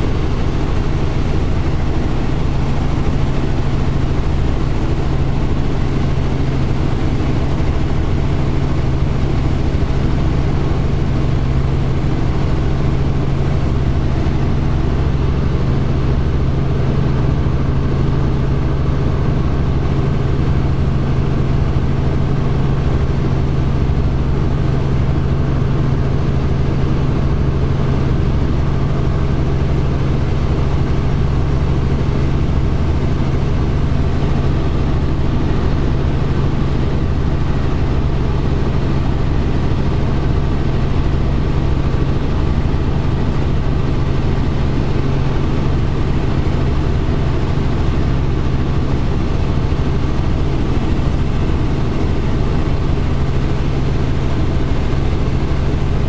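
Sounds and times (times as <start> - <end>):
helicopter drone from cockpit: 0.0 - 56.0.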